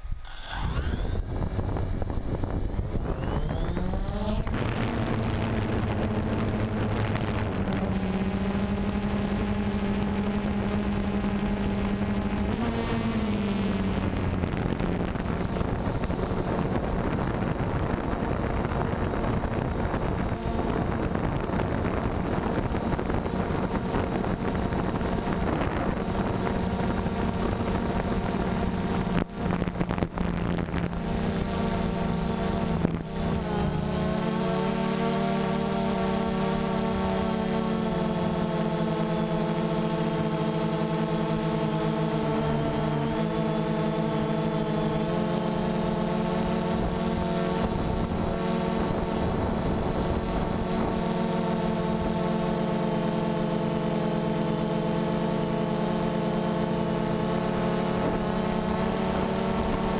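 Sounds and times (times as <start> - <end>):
wind on microphone: 0.0 - 54.2
drone motors buzzing: 0.0 - 59.9.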